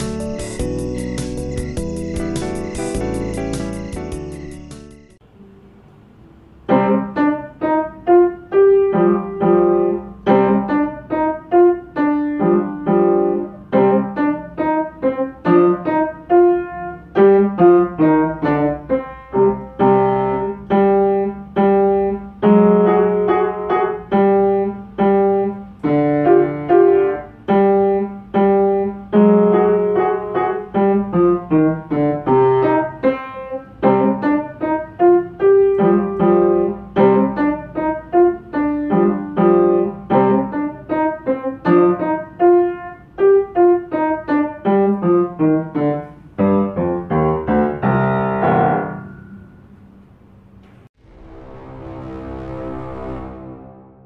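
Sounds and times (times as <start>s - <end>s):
solo piano piece: 0.0s - 50.9s.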